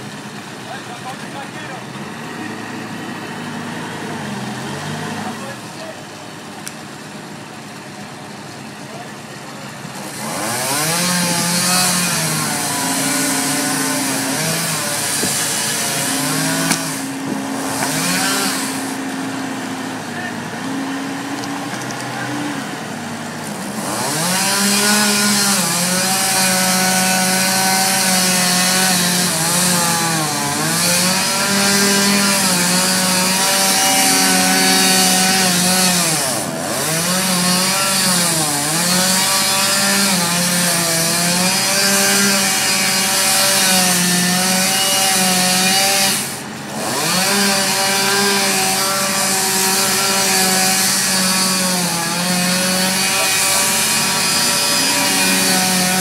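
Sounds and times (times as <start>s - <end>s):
chainsaw cutting wood: 9.9s - 56.0s.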